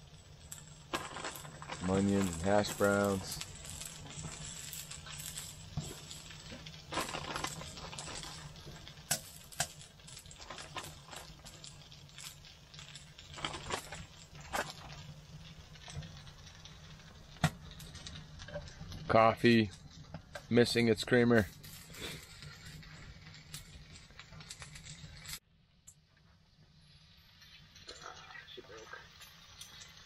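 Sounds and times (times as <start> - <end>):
hash browns sizzling on a griddle: 0.0 - 25.4, 26.0 - 30.0.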